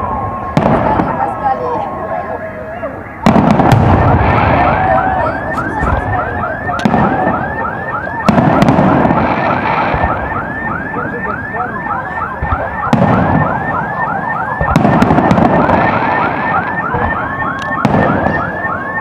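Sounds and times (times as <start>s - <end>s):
car alarm warbling: 0.0s - 19.0s
fireworks booms and cracks: 0.0s - 19.0s
steady alarm tone: 0.0s - 19.0s.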